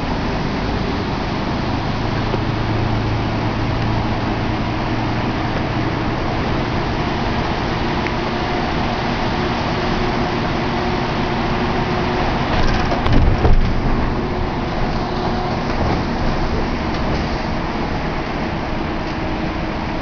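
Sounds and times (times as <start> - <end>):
loud low rumble: 0.0 - 20.0
motor vehicle noise: 0.0 - 20.0.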